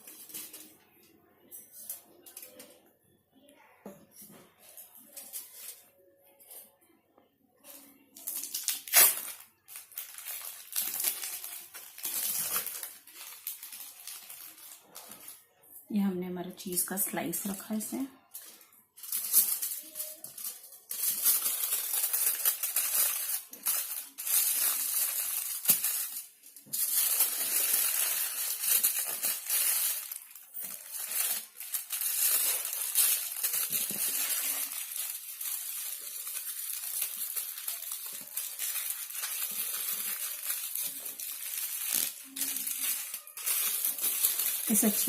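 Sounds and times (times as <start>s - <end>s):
aluminium foil crinkling: 0.0s - 0.8s, 4.6s - 6.7s, 7.6s - 15.4s, 16.8s - 45.0s.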